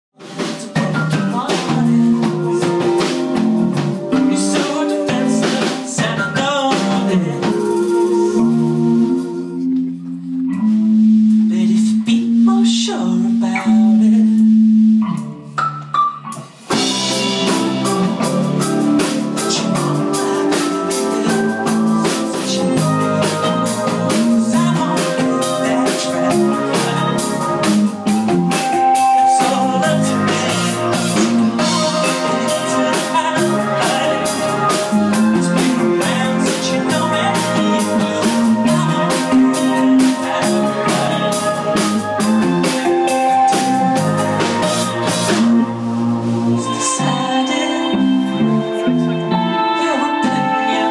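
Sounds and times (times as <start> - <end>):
live indie pop band playing: 0.2 - 50.9.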